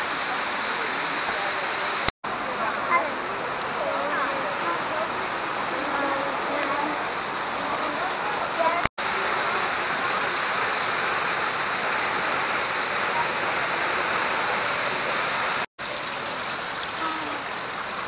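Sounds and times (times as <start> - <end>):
moving water: 0.0 - 18.0
waterfall rushing: 0.0 - 18.0.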